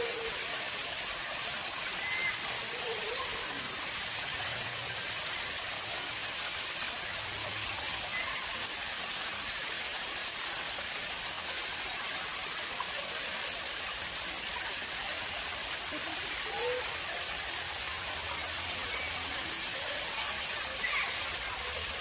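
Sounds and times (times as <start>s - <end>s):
water splashing into pond: 0.0s - 22.0s.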